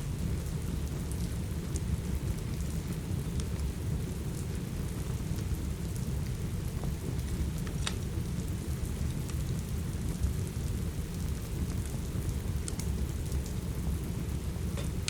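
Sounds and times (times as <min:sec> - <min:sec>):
steady rain rumbling: 0:00.0 - 0:15.0
wood fire crackling: 0:00.0 - 0:15.0.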